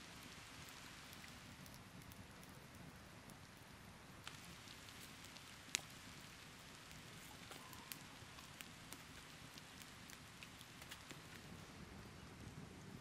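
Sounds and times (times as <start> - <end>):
sharp pops from fire: 0.0 - 11.8
campfire crackling: 0.0 - 13.0.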